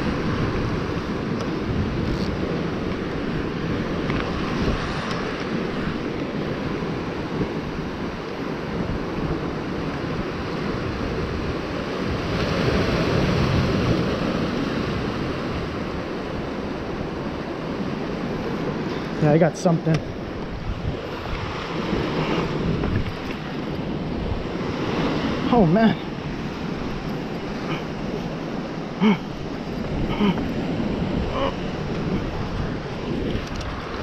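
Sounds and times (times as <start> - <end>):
surf breaking on rocks: 0.0 - 34.0
wind buffeting microphone: 0.0 - 34.0.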